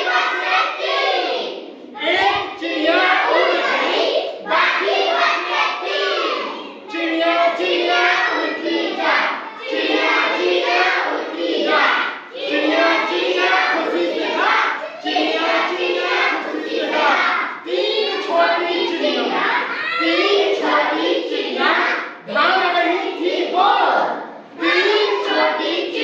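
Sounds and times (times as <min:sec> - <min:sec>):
children singing a chanted rhyme: 0:00.0 - 0:26.0.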